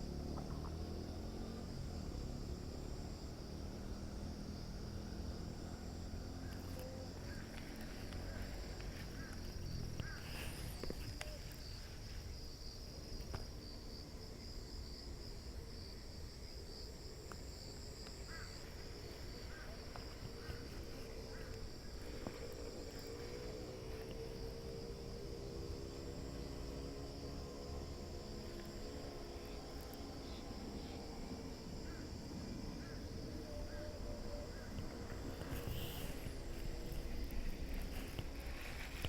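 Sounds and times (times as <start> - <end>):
insects chirping: 0.0 - 39.0
steady multi-tone hum: 0.0 - 39.0.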